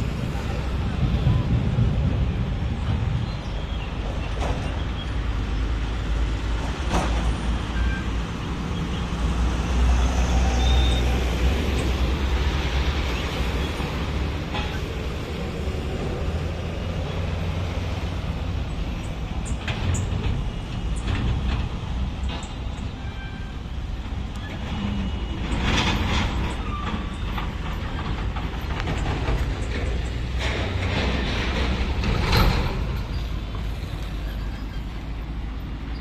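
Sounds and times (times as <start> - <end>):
dump truck diesel engine rumbling: 0.0 - 36.0
road traffic noise: 0.0 - 36.0.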